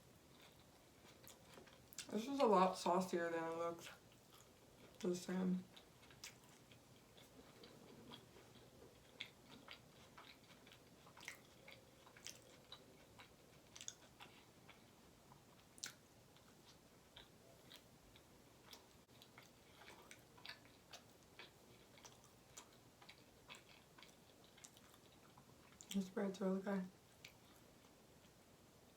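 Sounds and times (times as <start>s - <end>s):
person chewing: 0.3s - 2.1s, 3.8s - 5.0s, 5.7s - 26.0s.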